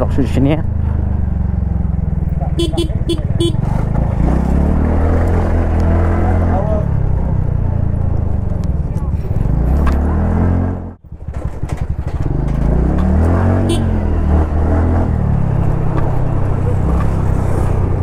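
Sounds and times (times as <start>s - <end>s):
scooter engine running: 0.0s - 10.0s, 11.0s - 18.0s.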